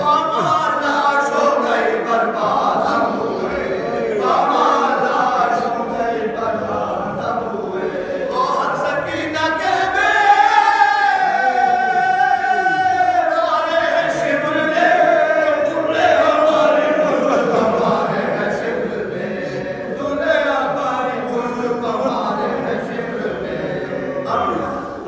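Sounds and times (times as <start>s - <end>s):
men chanting without instruments: 0.0s - 25.0s.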